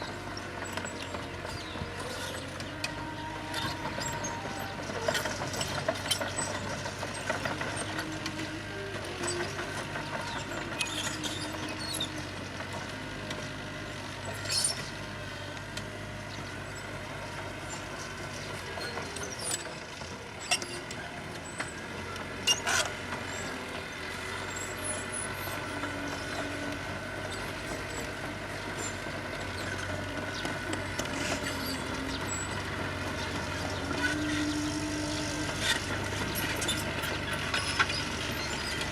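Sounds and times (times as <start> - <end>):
diesel construction machinery running: 0.0 - 38.9.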